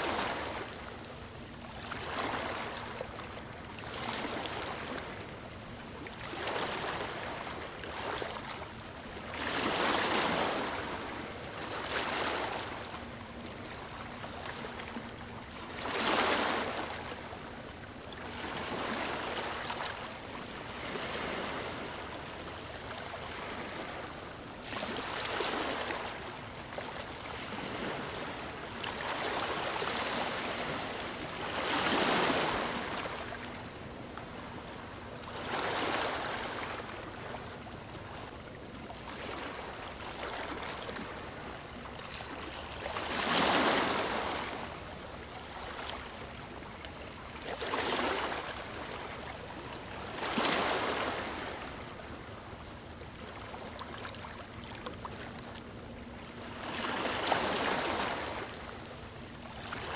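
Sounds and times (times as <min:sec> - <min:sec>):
sea waves breaking on beach: 0:00.0 - 0:05.4, 0:06.1 - 0:17.4, 0:18.2 - 0:38.3, 0:39.0 - 0:52.2, 0:56.4 - 0:59.9.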